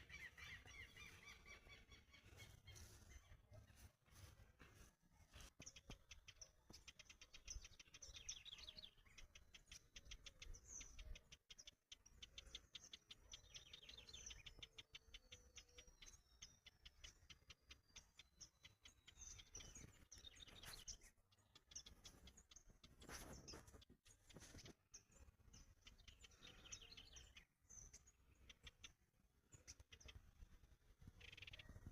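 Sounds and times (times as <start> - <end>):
small birds chirping in trills: 0.0 - 31.9.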